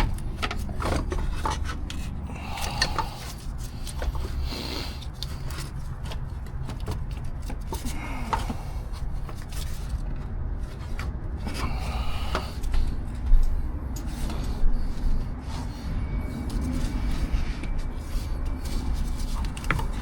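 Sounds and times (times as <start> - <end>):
alternator scraping against metal: 0.0 - 20.0
steady low rumble: 0.0 - 20.0.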